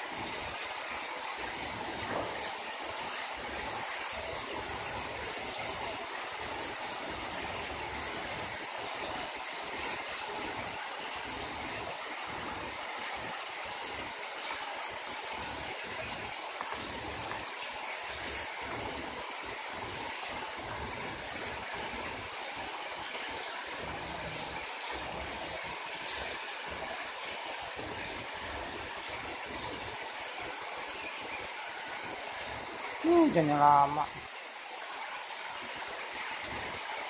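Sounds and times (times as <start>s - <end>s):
heavy rain on pavement: 0.0s - 37.0s.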